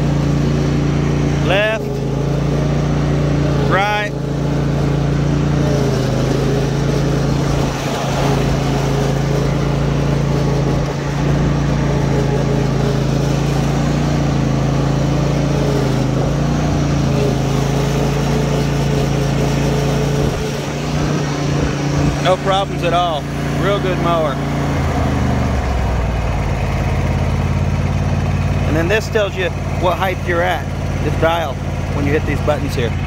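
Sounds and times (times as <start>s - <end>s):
lawn mower engine running: 0.0s - 33.0s
mower cutting blades: 0.0s - 33.0s.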